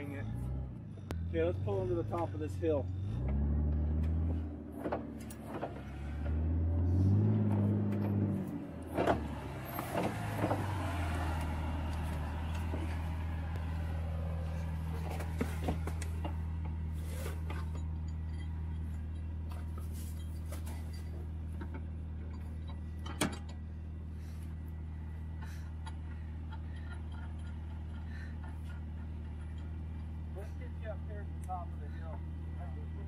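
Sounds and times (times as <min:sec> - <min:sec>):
vehicle engine idling: 0:00.0 - 0:33.0.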